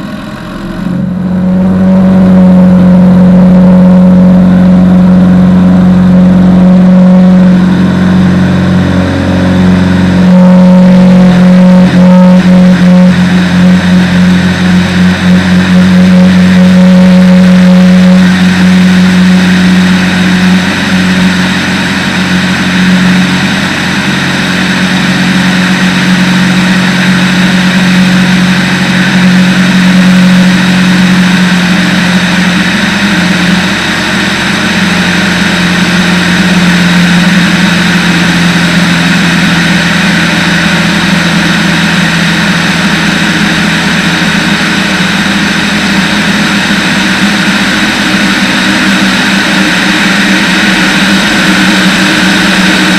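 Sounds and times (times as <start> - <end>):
propeller aircraft engine droning: 0.0 - 52.9.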